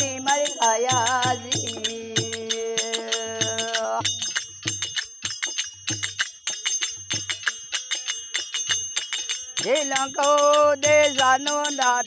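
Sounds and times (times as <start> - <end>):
drum beats: 0.0 - 12.0
hand cymbals clashing: 0.0 - 12.0.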